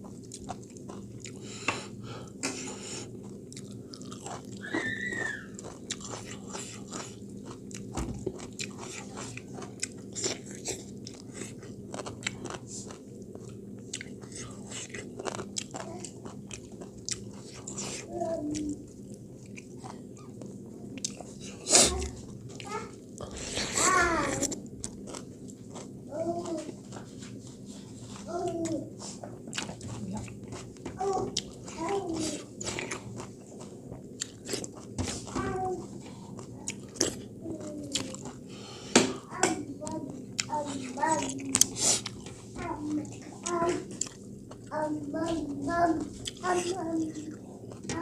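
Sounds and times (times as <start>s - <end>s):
chewing and crunching food: 0.0s - 38.6s, 39.2s - 48.0s.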